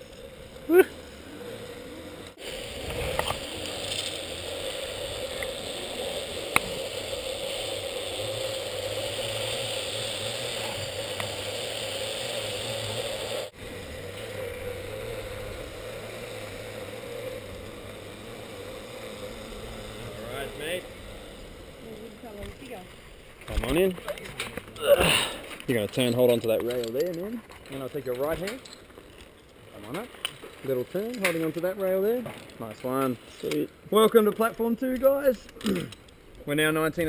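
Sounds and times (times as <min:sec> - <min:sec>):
zipline pulleys whirring on cable: 0:00.0 - 0:37.0.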